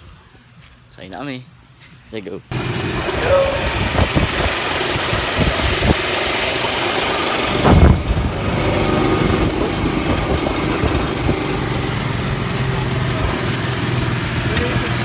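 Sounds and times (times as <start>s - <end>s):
vehicle engine running: 2.5s - 15.0s.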